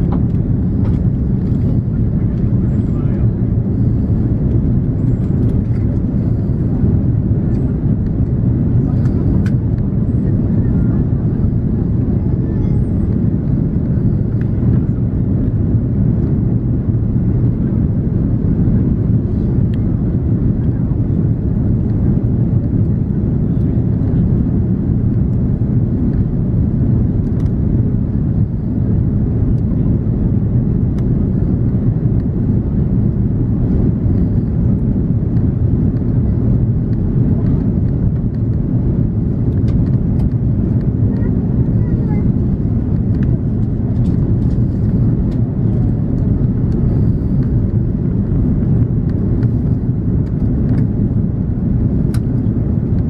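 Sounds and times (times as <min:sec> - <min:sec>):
airflow past fuselage: 0:00.0 - 0:53.0
airplane cabin engine rumble: 0:00.0 - 0:53.0.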